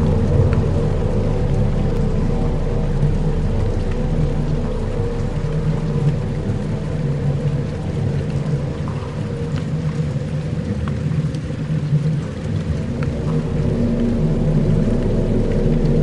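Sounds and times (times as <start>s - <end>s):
dense low rumble drone: 0.0s - 16.0s.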